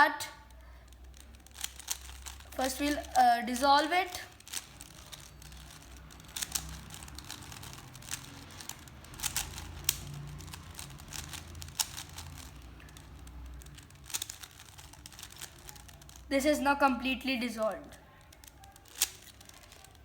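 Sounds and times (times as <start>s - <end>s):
puzzle cube plastic clicks: 0.2s - 16.6s, 17.4s - 20.0s.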